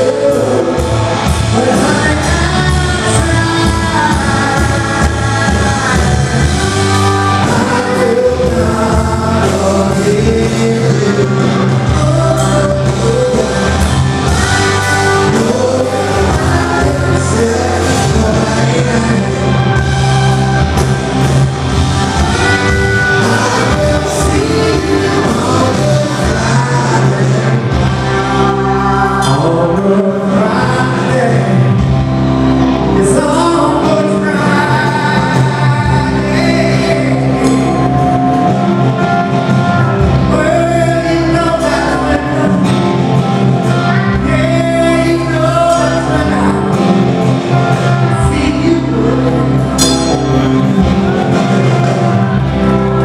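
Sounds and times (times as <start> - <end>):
live rock band: 0.0 - 53.0
male lead vocal: 0.0 - 53.0.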